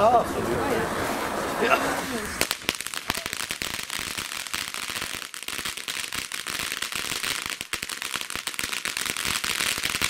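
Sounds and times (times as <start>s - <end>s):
fireworks fountain crackling: 0.0s - 10.0s.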